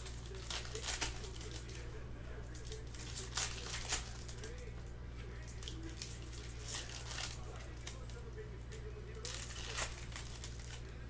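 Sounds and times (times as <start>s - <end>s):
foil wrappers crinkling and tearing: 0.0s - 11.0s
steady low hum: 0.0s - 11.0s.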